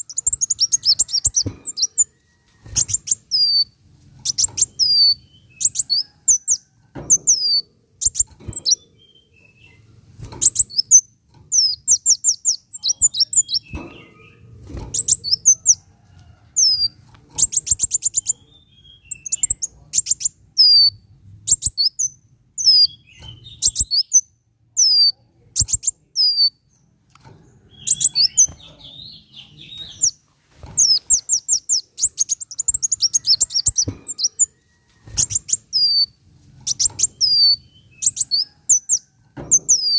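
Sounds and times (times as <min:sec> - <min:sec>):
sunbird chirps and trills: 0:00.0 - 0:02.1, 0:02.7 - 0:09.8, 0:10.4 - 0:15.8, 0:16.6 - 0:26.9, 0:27.6 - 0:30.2, 0:30.8 - 0:34.5, 0:35.1 - 0:39.9.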